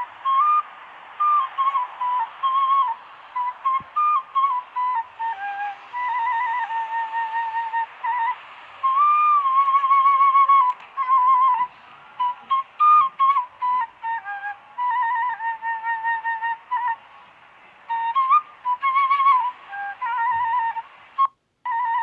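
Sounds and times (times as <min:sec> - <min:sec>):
solo flute melody: 0:00.0 - 0:22.0.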